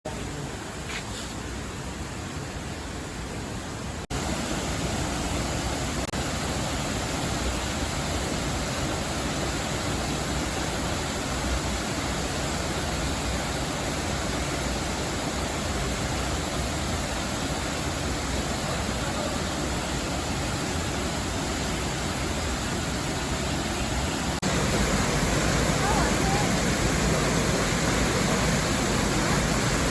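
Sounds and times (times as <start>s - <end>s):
rushing river water: 0.1s - 29.9s.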